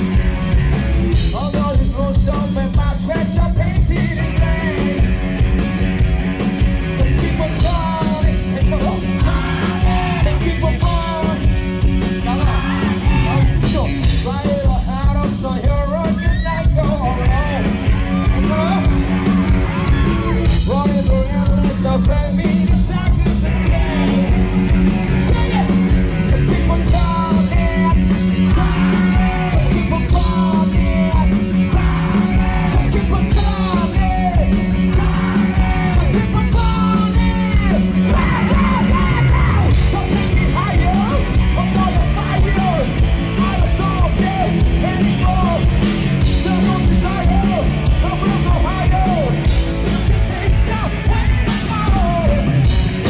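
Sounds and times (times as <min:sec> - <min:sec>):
drums and bass: 0:00.0 - 0:53.0.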